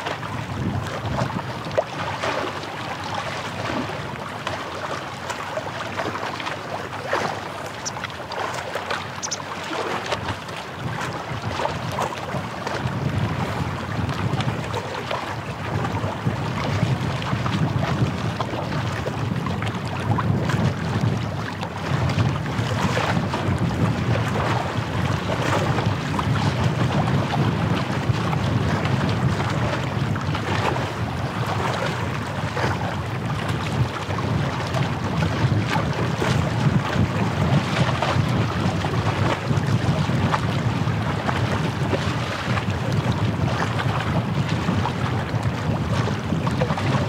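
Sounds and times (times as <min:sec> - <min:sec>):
small waves at shoreline: 0:00.0 - 0:47.0
wind buffeting microphone: 0:00.0 - 0:47.0.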